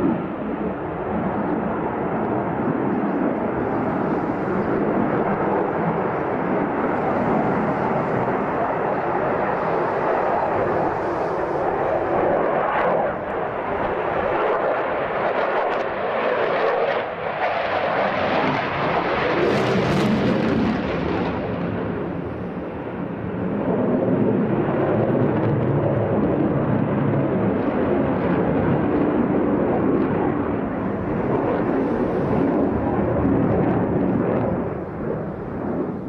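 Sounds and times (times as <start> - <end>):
jet engine roar with afterburner: 0.0 - 36.0.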